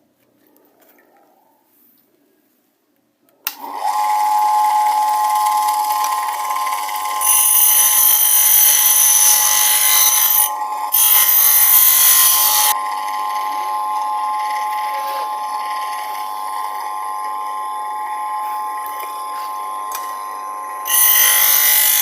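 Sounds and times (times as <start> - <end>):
grinder motor whining: 3.6 - 22.0.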